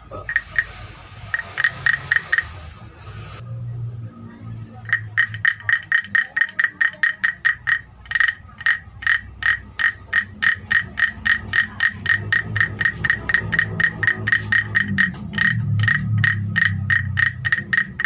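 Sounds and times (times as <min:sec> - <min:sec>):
wooden frog rasp croaking: 0:00.0 - 0:03.3, 0:04.6 - 0:18.0.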